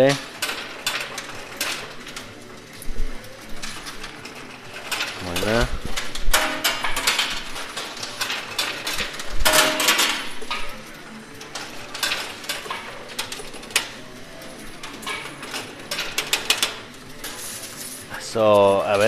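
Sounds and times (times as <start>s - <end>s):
metal coins clinking and clattering: 0.0s - 19.0s.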